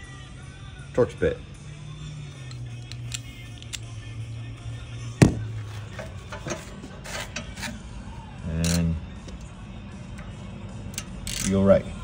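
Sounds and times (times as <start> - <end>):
background music with low tone: 0.0 - 12.0.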